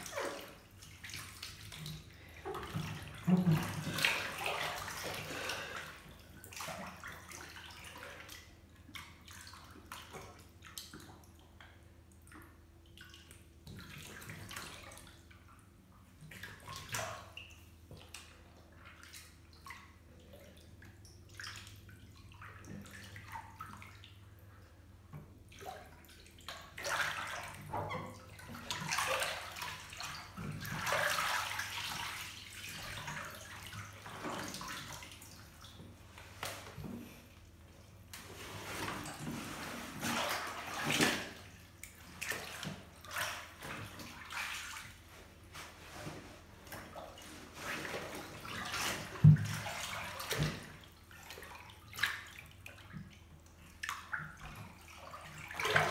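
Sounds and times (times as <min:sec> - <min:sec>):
water splashing in bathtub: 0:00.0 - 0:55.9.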